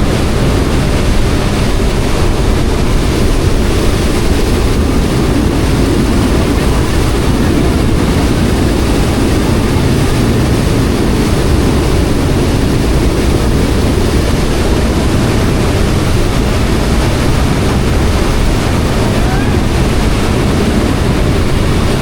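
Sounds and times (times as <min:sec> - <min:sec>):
ferry engines rumbling: 0:00.0 - 0:22.0
water rushing past hull: 0:00.0 - 0:22.0.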